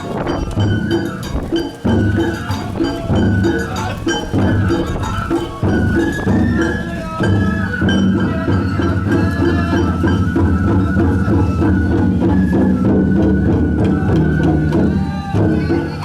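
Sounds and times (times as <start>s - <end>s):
festival drumming: 0.0s - 16.0s
sustained melody: 0.0s - 16.0s.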